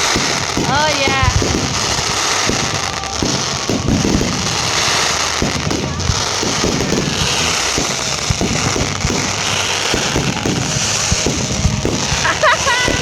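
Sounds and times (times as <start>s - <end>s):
fireworks booms and pops: 0.0s - 13.0s
fireworks crackling: 0.0s - 13.0s.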